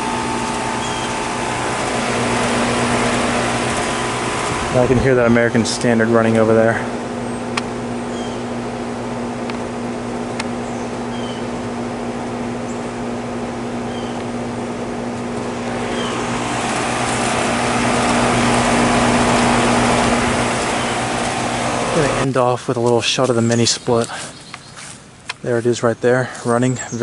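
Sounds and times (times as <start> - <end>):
compressor hum: 0.0 - 27.0
condenser fan rushing: 0.0 - 27.0.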